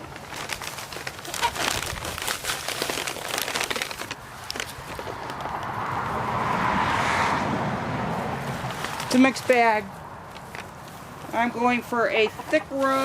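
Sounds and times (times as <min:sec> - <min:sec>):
dry rustling and crinkling: 0:00.0 - 0:06.1, 0:08.4 - 0:13.0.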